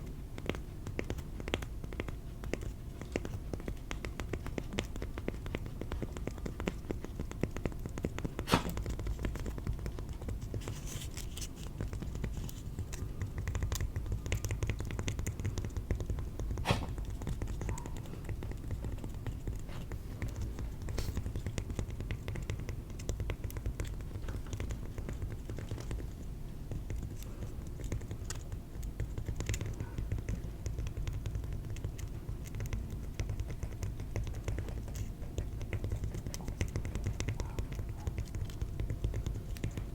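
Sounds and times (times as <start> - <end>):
rapid tapping on cork: 0.0 - 39.9.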